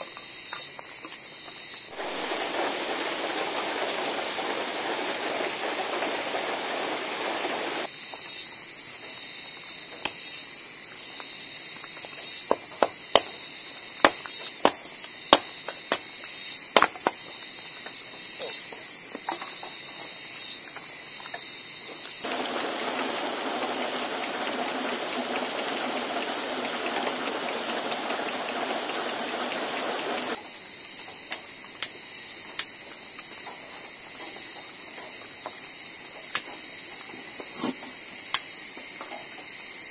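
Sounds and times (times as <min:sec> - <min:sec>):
light rain hiss: 0:00.0 - 0:39.9
pulsing insect chorus: 0:00.0 - 0:39.9.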